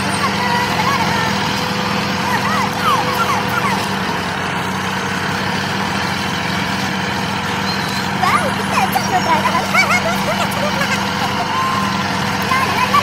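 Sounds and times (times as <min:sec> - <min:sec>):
small tractor motor running: 0:00.0 - 0:13.0.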